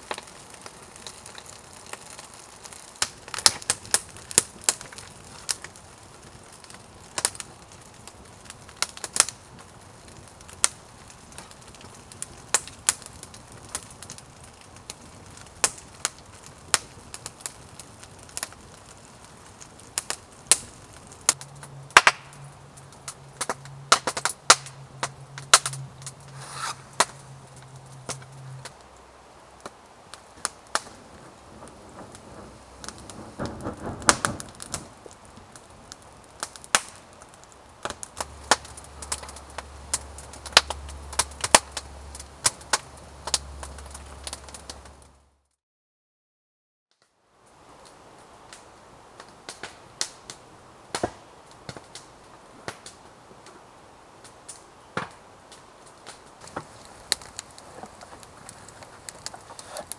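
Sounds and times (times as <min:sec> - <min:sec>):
campfire crackling and popping: 0:00.0 - 0:45.4, 0:47.0 - 0:59.9.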